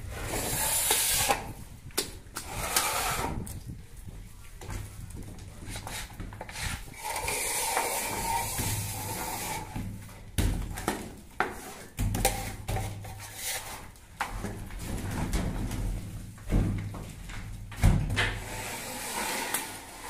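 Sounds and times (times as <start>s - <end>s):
plaster rubbing and scraping: 0.0s - 16.3s, 18.3s - 20.0s.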